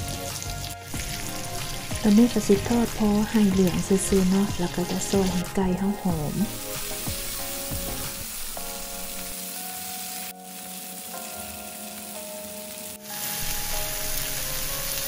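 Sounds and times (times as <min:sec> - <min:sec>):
chicken sizzling in a frying pan: 0:00.0 - 0:15.0.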